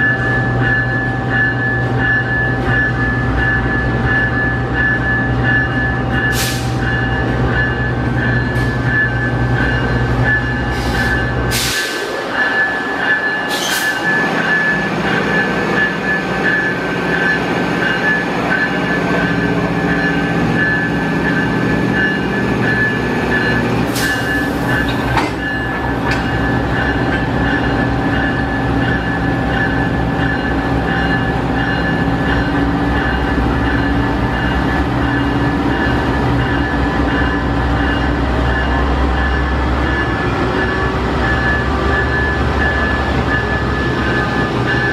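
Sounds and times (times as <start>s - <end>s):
diesel locomotive idling: 1.0s - 44.9s.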